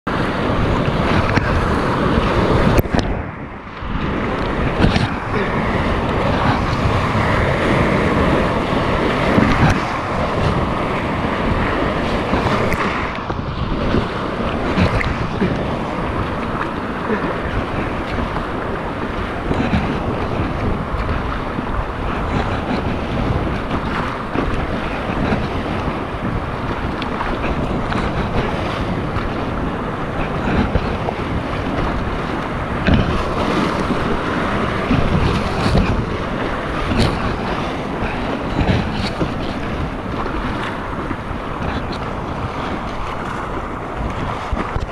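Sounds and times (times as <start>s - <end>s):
wind buffeting microphone: 0.0s - 44.9s
whitewater rapids rushing: 0.1s - 44.9s.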